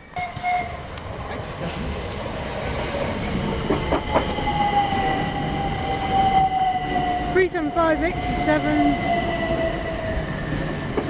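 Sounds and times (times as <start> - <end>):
train whine: 0.0 - 11.0
train wheels on rails: 0.1 - 11.0.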